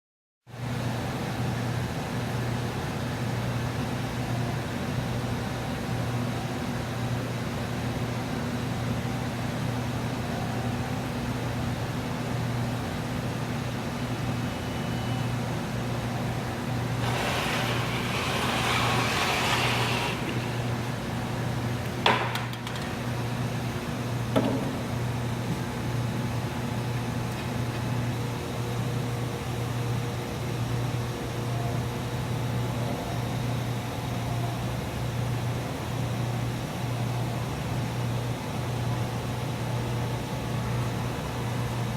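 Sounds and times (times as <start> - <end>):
low machine hum: 1.0 - 41.9.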